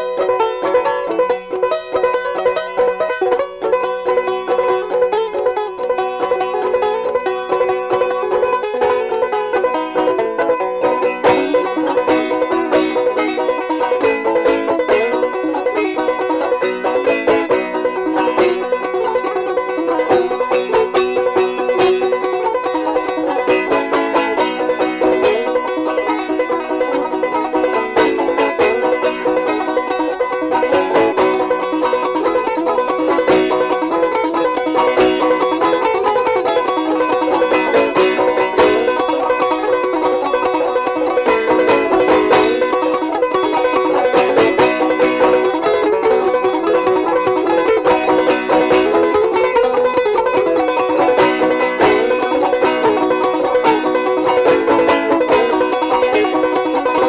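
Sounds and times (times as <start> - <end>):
fast picked banjo music: 0.0 - 57.0.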